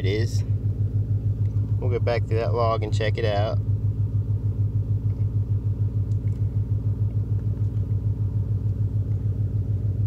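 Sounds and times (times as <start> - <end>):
car engine idling rumble: 0.0 - 10.0.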